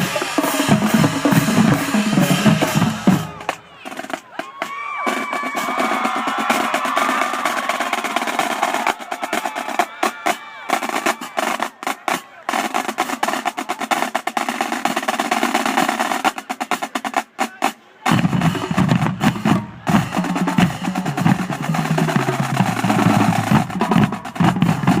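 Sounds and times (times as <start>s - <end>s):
snare and tenor drum rolls: 0.0s - 25.0s.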